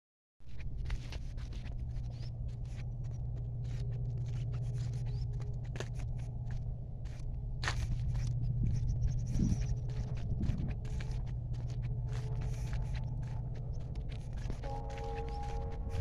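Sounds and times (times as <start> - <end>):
steady low hum: 0.5 - 16.0.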